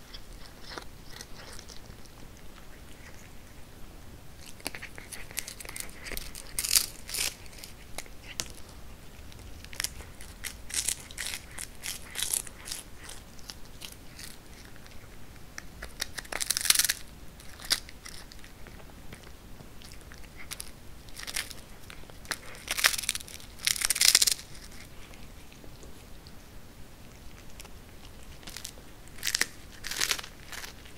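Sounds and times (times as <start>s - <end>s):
cat crunching dried fish: 0.0s - 30.9s.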